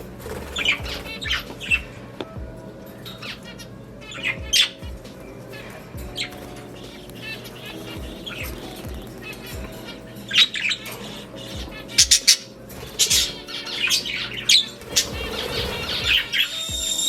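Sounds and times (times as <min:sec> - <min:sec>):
budgerigars squawking and chirping: 0:00.0 - 0:02.1, 0:03.0 - 0:17.0.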